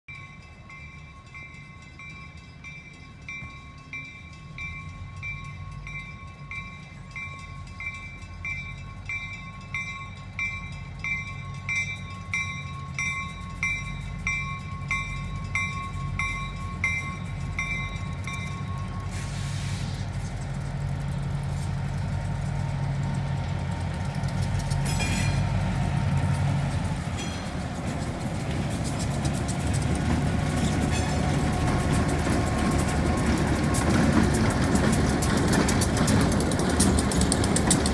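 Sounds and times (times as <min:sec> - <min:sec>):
crossing warning bell ringing: 0:00.1 - 0:37.9
diesel locomotive rumble: 0:00.1 - 0:37.9.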